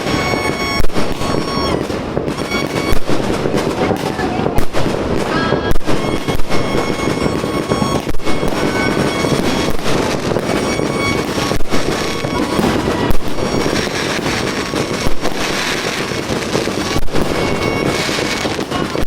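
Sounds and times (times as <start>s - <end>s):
fireworks barrage rumbling and crackling: 0.0s - 19.0s
loud firework bangs: 0.0s - 19.0s.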